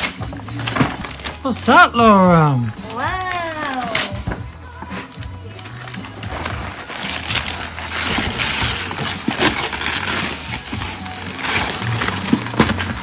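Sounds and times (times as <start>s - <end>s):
wrapping paper tearing: 0.0s - 4.2s, 5.5s - 13.0s.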